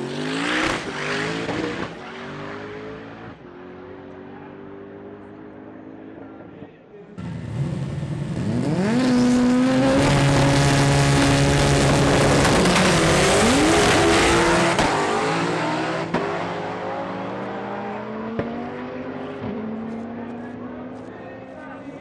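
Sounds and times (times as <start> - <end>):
race car engines at full throttle: 0.0 - 22.0.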